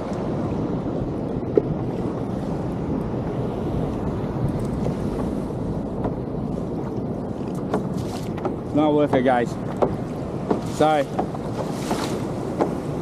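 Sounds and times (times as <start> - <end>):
choppy sea waves: 0.0 - 13.0
wind buffeting microphone: 0.0 - 13.0.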